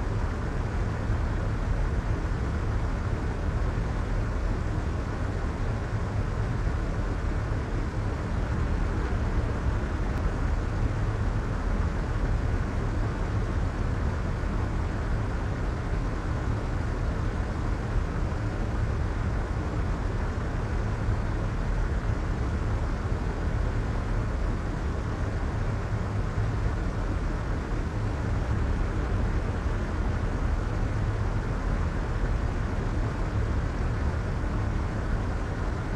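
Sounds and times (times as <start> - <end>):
low rumbly white noise: 0.0 - 35.9.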